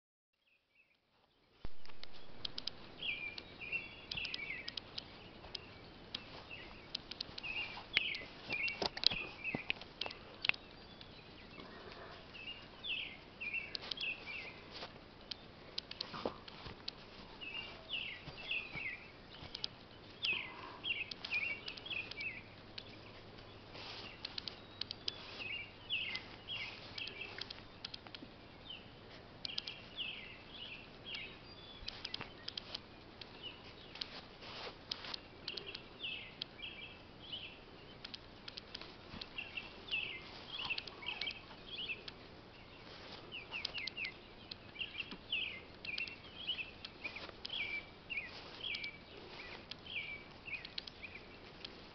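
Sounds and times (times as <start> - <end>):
birds chirping: 0.4 - 51.9
soft clicks and rustles: 1.0 - 51.9.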